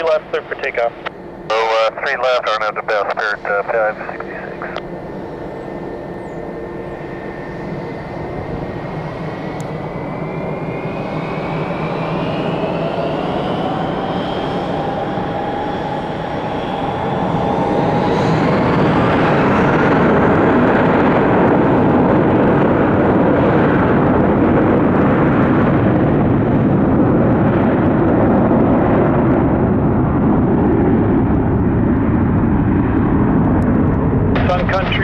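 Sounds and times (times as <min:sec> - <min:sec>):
jet engine roar: 0:00.0 - 0:35.0
jet engine whine: 0:00.0 - 0:35.0.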